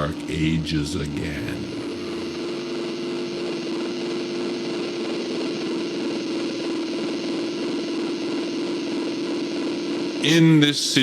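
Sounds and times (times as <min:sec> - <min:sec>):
steady held tone drone: 0:00.0 - 0:11.0.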